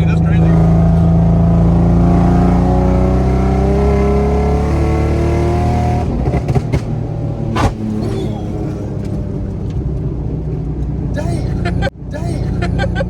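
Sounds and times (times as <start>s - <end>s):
exhaust cracks: 0.0s - 11.2s
car engine accelerating: 0.0s - 11.9s.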